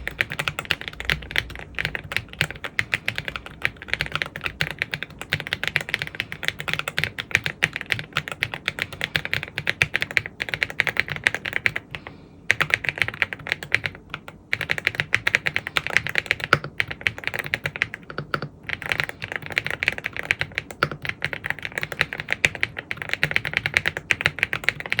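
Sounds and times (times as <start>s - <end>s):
mechanical keyboard typing: 0.0s - 25.0s.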